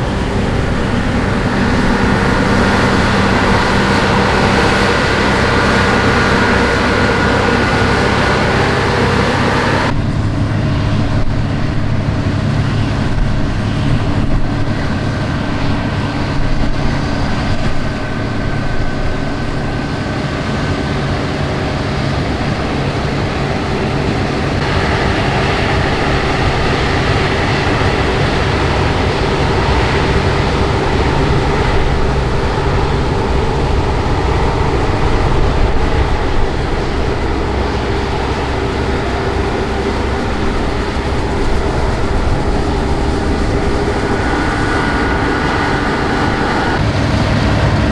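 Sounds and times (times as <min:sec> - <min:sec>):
combine harvester diesel engine: 0:00.0 - 0:47.9.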